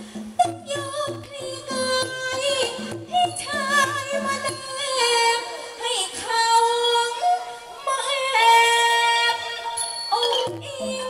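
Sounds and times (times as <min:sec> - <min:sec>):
low backing instruments: 0:00.0 - 0:11.0
woman singing through microphone: 0:00.0 - 0:11.0.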